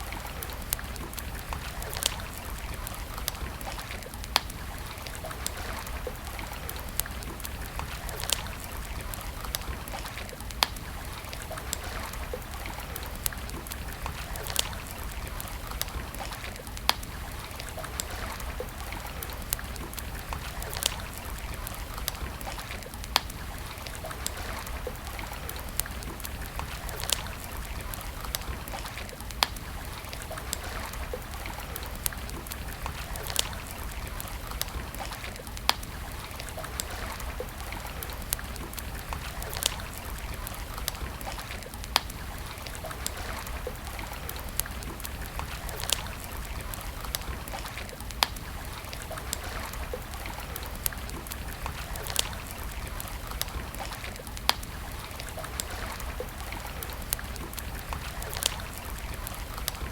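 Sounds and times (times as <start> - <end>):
campfire crackling: 0.0 - 59.9
stream water flowing: 0.0 - 59.9
burning wood popping: 0.3 - 59.9.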